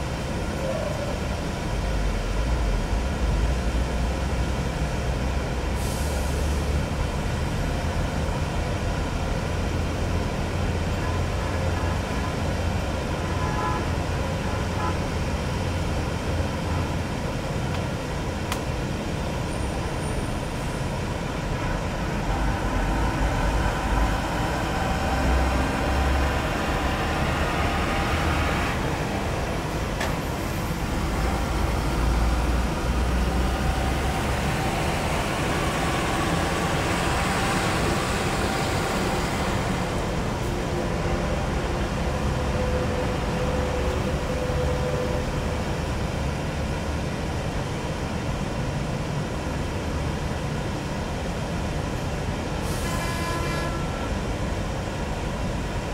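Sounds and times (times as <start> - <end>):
broad rushing noise: 0.0 - 53.0
jet engine rumble and whine: 0.0 - 55.9.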